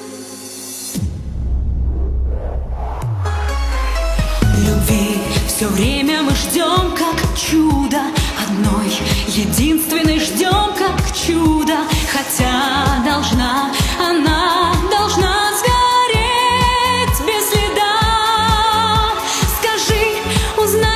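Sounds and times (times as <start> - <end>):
pop song with drum beat: 3.3 - 20.9.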